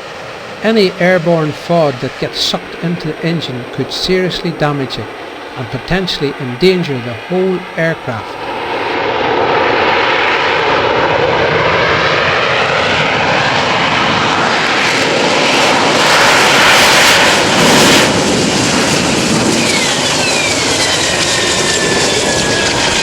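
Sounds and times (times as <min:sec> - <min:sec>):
jet engine running loud: 0:00.0 - 0:23.0.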